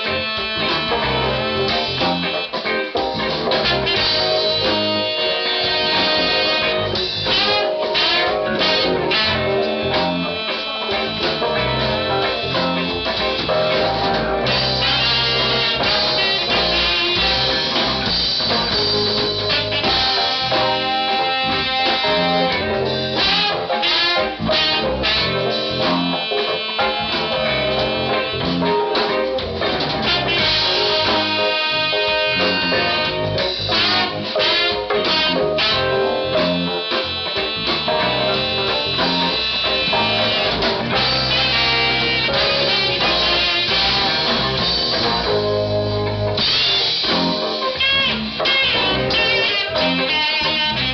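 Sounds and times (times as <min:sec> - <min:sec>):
funk band playing: 0:00.0 - 0:50.9.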